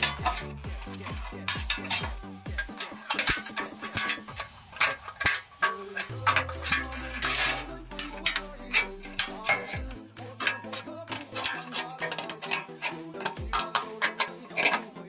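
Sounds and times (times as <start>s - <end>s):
background music: 0.0s - 15.0s
shears snipping sheet metal: 0.0s - 15.0s.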